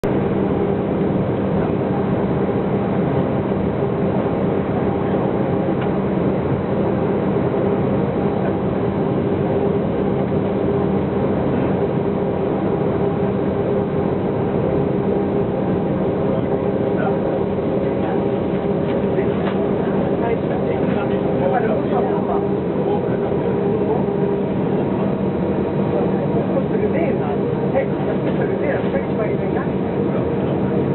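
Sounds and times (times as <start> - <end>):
jet engines droning: 0.0 - 30.9.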